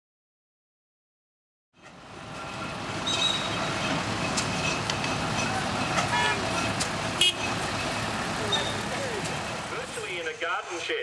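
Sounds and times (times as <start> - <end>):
tractor engines running: 1.8 - 11.0.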